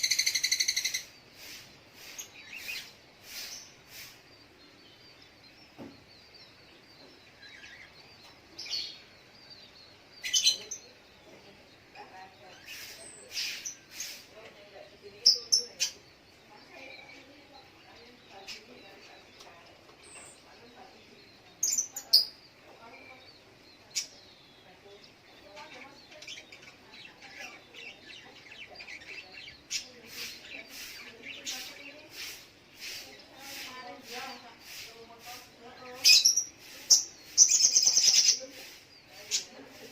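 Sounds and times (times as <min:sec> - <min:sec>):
bird chirping: 0:00.0 - 0:39.9
sharp bird calls: 0:00.0 - 0:39.9.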